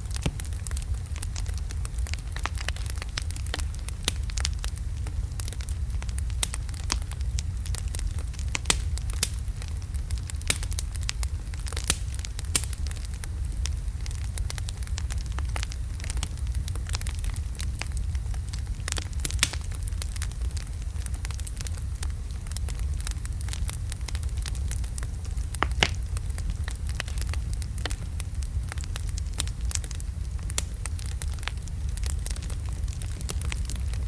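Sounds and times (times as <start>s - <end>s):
logs crackling and popping: 0.0s - 34.0s
low fire rumble: 0.0s - 34.0s.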